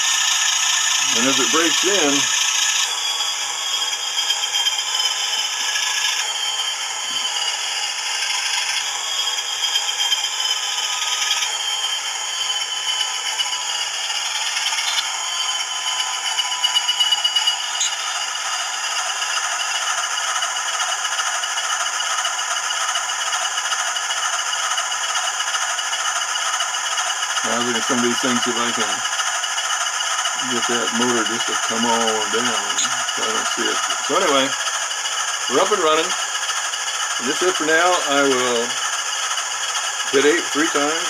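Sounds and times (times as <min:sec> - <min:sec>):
engine sound from tiny speaker: 0:00.0 - 0:41.0
model motor rattling whir: 0:00.0 - 0:41.0.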